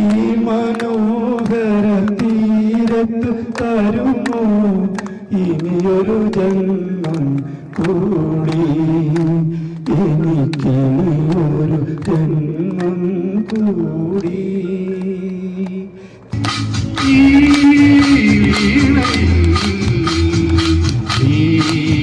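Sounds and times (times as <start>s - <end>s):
sharp hand claps: 0.0s - 14.4s, 15.0s - 22.0s
man singing classical style: 0.0s - 16.0s, 17.0s - 22.0s.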